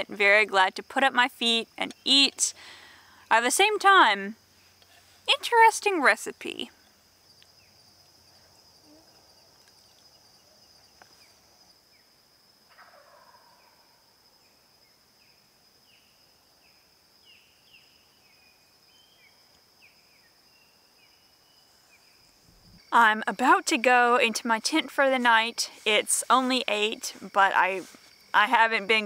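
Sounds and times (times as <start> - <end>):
high-pitched insect trill: 0.6 - 29.0.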